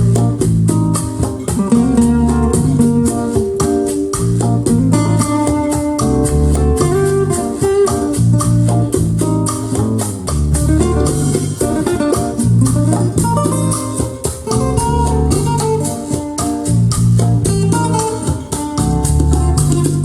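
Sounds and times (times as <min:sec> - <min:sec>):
jazz fusion music: 0:00.0 - 0:20.0.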